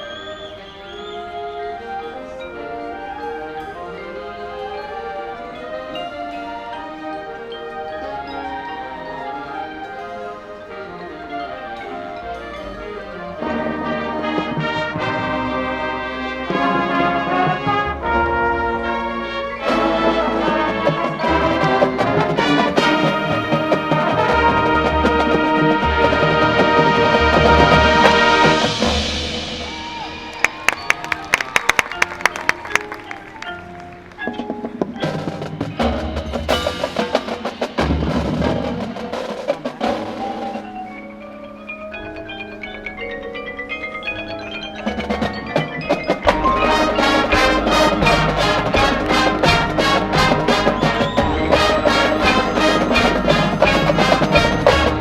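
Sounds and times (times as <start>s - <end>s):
brass band playing chords: 0.0s - 41.5s, 45.0s - 55.0s
mallet percussion: 0.0s - 55.0s.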